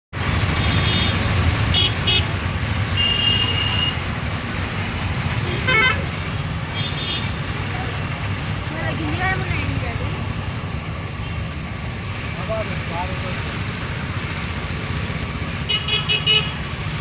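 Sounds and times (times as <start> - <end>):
road traffic rumble: 0.1 - 17.0.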